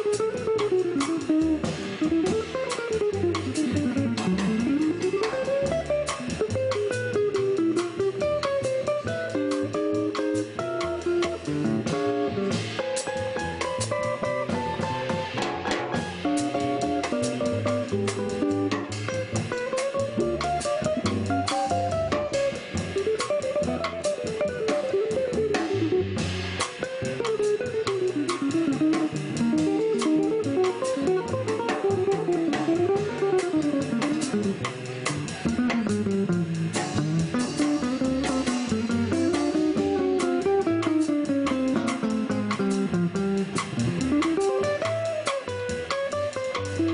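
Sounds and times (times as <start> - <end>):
archtop guitar melody: 0.0 - 46.9
light drum and cymbal strokes: 0.0 - 46.9
plucked double bass: 0.0 - 46.9.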